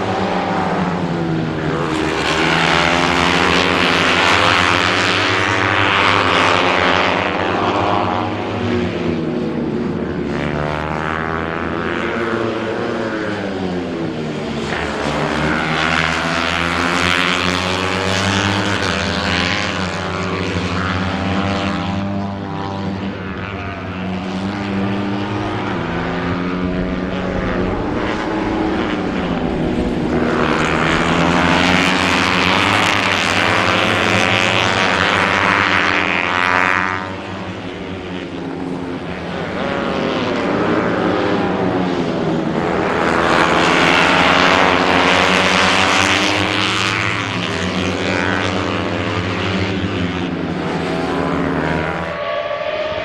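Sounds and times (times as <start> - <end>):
racing motorcycle engines revving: 0.0 - 53.0.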